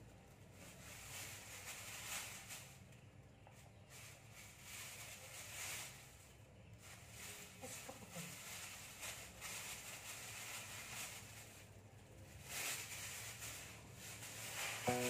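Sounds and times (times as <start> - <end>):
plastic bags rustling: 0.2 - 3.2, 3.8 - 15.0.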